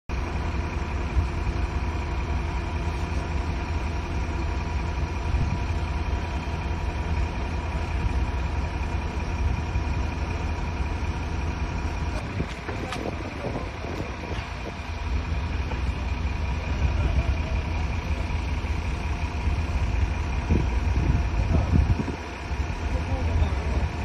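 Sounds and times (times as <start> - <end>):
boat engines idling: 0.1 - 24.0.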